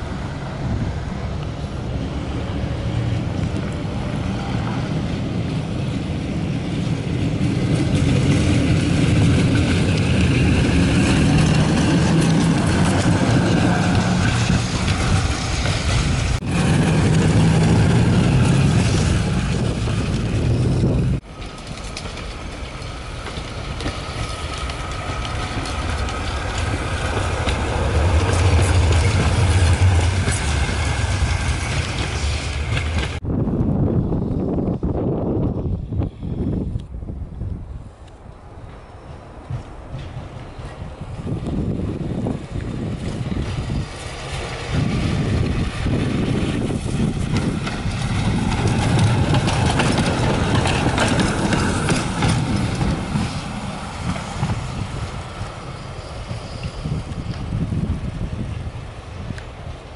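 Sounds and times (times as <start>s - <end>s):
tram rumbling on rails: 0.0s - 59.9s.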